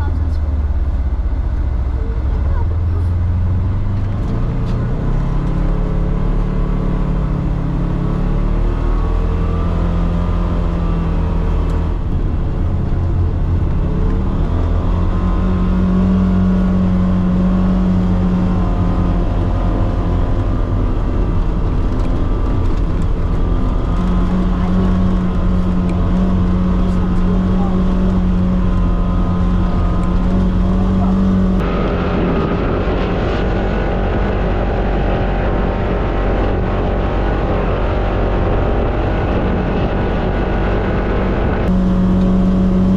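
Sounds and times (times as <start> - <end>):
off-road vehicle engine running: 0.0 - 42.9.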